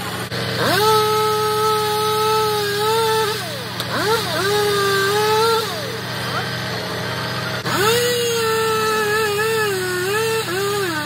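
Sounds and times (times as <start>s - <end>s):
hydraulic whine: 0.0s - 11.0s
truck engine rumble: 0.0s - 11.0s.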